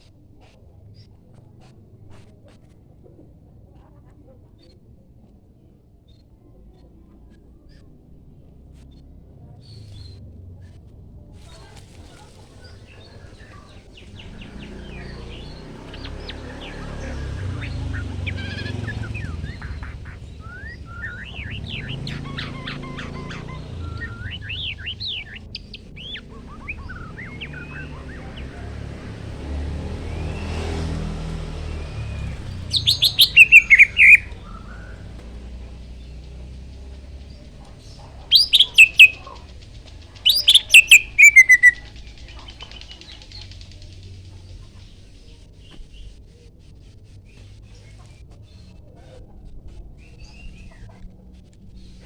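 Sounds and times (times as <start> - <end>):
songbirds chirping: 0.0 - 52.0
low steady rumble: 6.4 - 52.0.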